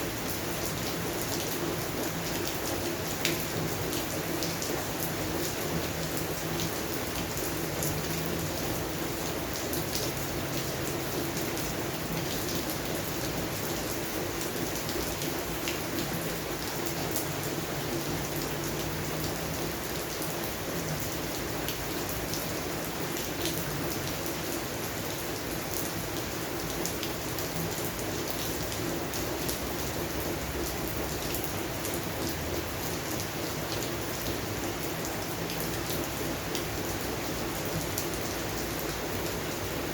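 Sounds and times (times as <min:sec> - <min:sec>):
rain falling on plants: 0:00.0 - 0:39.9.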